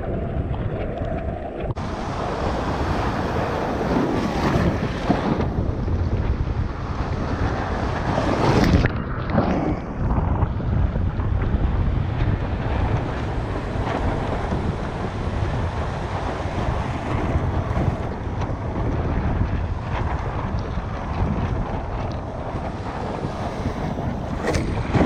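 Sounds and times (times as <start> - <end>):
wind buffeting microphone: 0.0 - 25.0
surf washing: 1.7 - 25.0.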